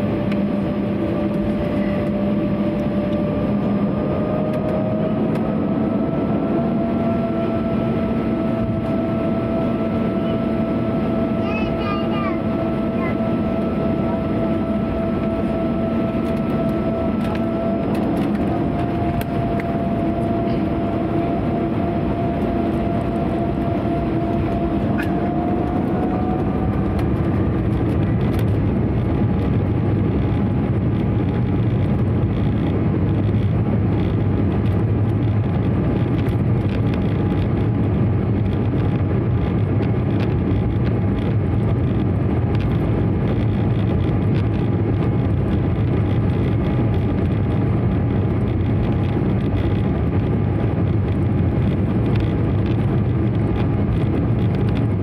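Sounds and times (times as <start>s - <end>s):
jet engines rumbling with whine: 0.0s - 55.0s.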